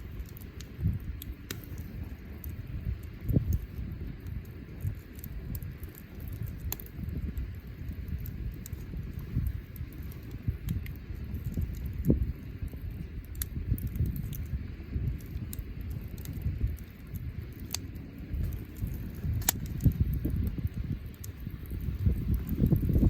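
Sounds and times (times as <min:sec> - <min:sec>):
bonfire flame rumble: 0:00.0 - 0:23.0
burning wood crackling and popping: 0:00.0 - 0:23.0.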